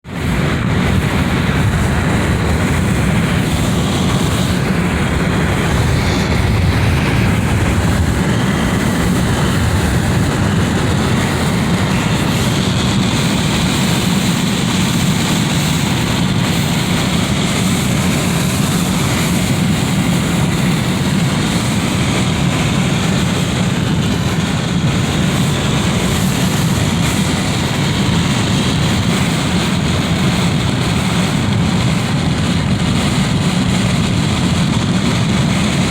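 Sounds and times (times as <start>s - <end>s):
wind rushing through window: 0.0s - 35.9s.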